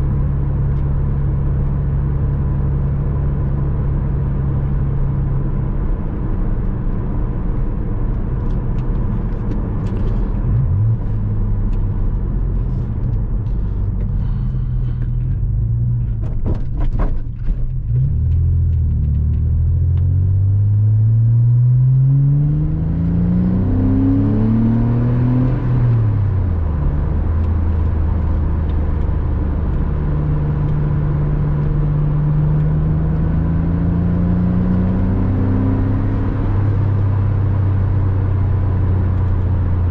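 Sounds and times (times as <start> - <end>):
car engine driving at speed: 0.0 - 39.9.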